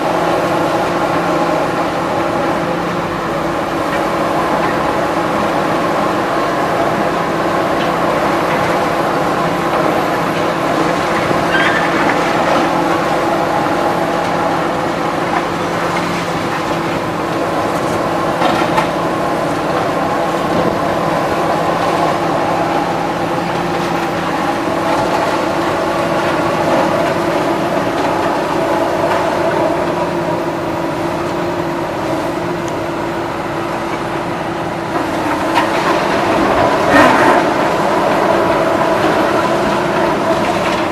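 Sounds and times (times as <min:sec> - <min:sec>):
heavy engine running: 0:00.0 - 0:40.9.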